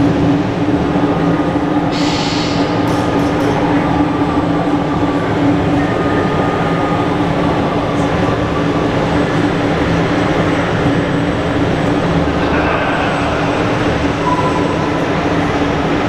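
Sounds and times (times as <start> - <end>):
busy hall din: 0.0 - 16.0
mechanical drone with low hum: 0.0 - 16.0.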